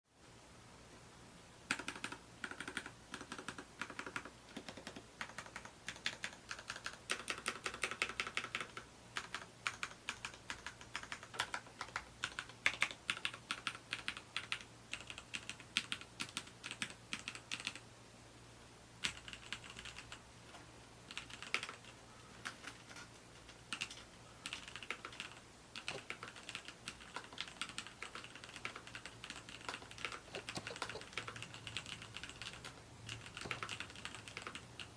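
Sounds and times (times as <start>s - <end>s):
mechanical keyboard typing: 1.7s - 17.8s, 19.0s - 20.2s, 21.1s - 34.9s.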